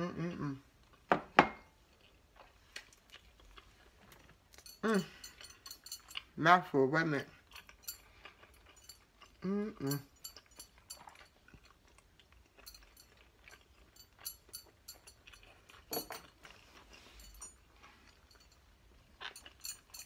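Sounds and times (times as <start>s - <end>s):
chewing food: 1.7s - 6.4s, 7.2s - 20.0s.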